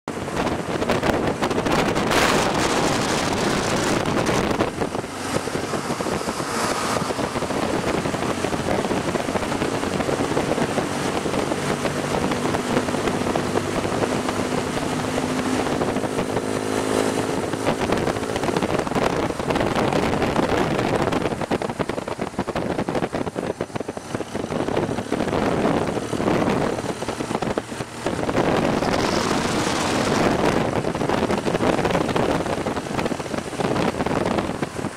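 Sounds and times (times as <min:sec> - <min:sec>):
wind rush on microphone: 0:00.0 - 0:34.9
motorcycle engine running: 0:00.3 - 0:34.9.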